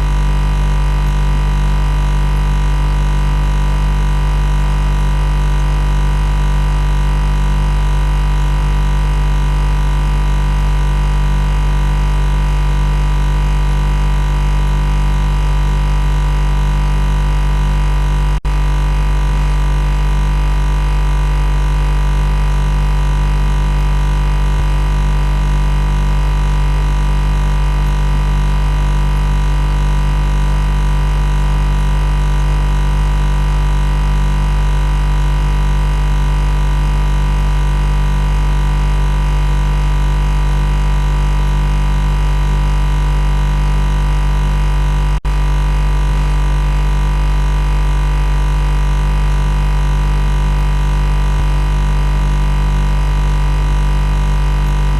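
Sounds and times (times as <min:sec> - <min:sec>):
loud machine buzz: 0:00.0 - 0:54.9.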